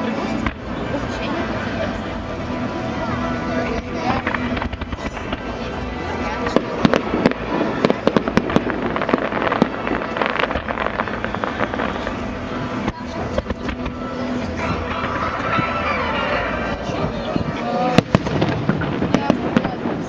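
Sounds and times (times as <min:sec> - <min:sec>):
show music: 0:00.0 - 0:20.0
fireworks cracks and bangs: 0:00.2 - 0:02.2, 0:03.4 - 0:20.0.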